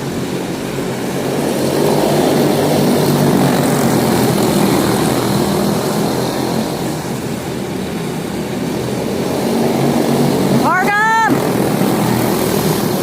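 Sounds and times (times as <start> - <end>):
race car engines buzzing: 0.0 - 13.0.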